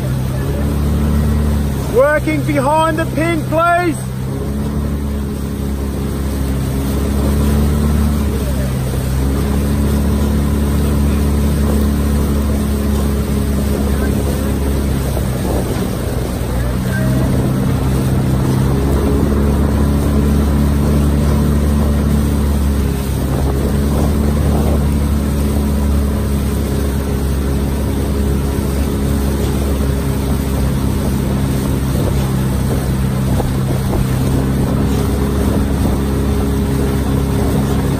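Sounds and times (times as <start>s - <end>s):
outboard motor droning: 0.0s - 37.9s.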